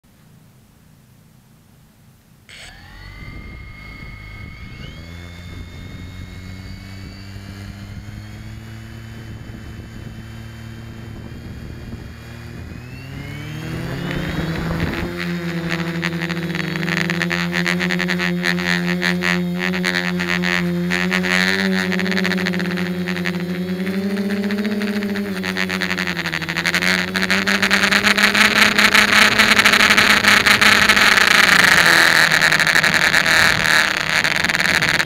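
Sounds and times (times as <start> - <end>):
quadcopter motors whining: 2.5 - 35.0.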